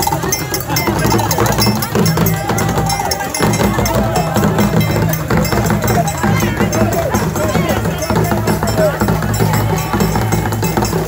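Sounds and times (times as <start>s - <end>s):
bell and drums playing: 0.0s - 11.0s
crowd chatter: 0.0s - 11.0s.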